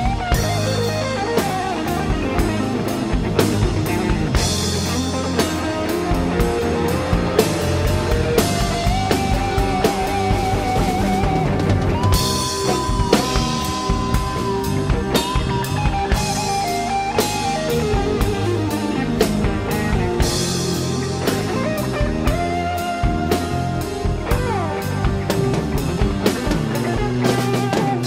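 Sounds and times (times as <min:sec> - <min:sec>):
bass guitar: 0:00.0 - 0:28.0
drum kit with cymbal strikes: 0:00.0 - 0:28.0
electric guitar melody: 0:00.0 - 0:28.0.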